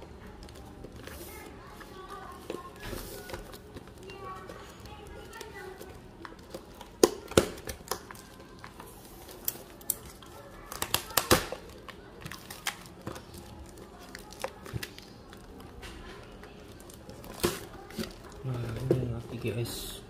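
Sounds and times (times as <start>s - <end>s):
cardboard crinkling: 0.2s - 19.6s.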